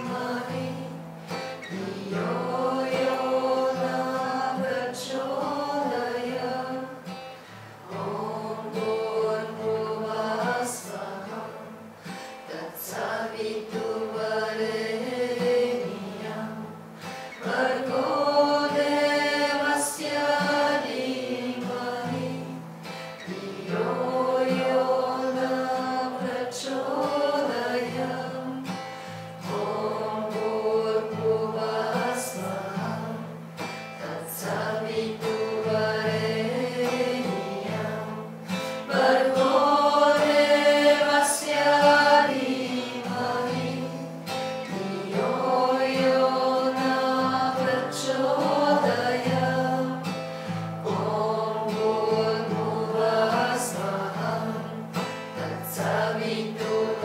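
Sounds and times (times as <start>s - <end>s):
group chanting in unison: 0.0s - 57.0s
strummed acoustic guitar: 0.0s - 57.0s.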